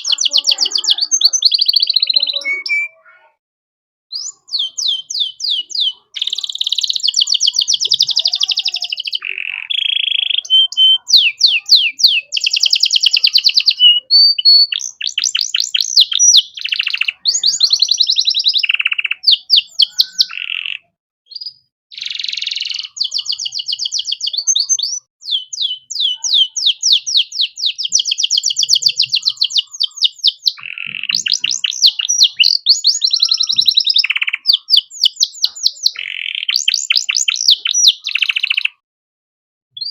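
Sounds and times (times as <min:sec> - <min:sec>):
canary singing trills: 0:00.0 - 0:03.4, 0:04.1 - 0:38.8.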